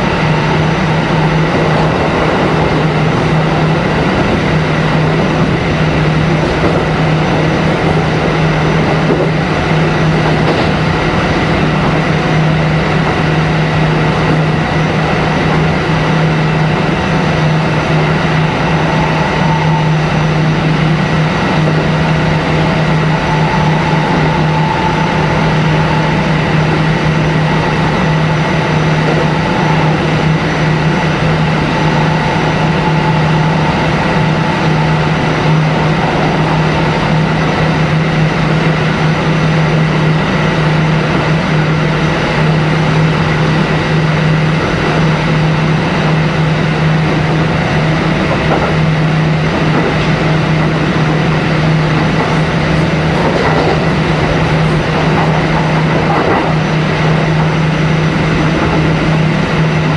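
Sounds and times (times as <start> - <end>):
steady low hum: 0.0 - 59.9
thin high whine: 0.0 - 59.9
train wheels rumbling: 0.0 - 59.9.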